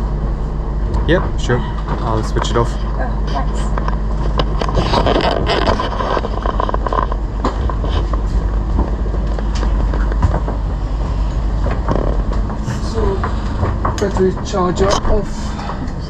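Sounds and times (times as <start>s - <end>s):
generator humming: 0.0s - 16.0s.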